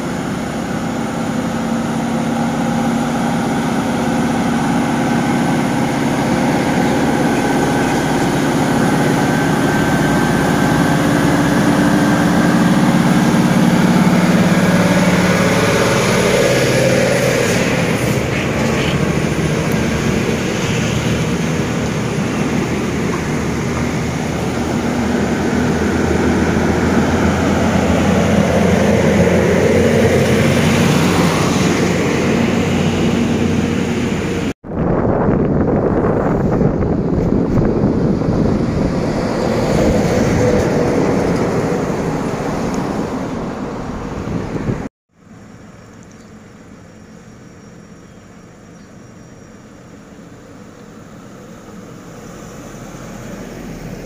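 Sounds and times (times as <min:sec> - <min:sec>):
truck diesel engine under load: 0:00.0 - 0:54.0.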